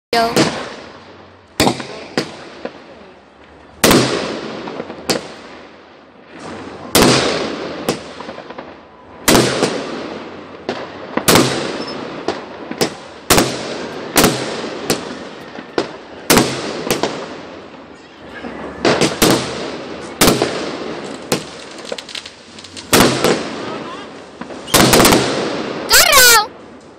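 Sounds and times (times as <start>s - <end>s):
fireworks bangs: 0.1s - 26.9s
fireworks crackle: 0.2s - 26.9s.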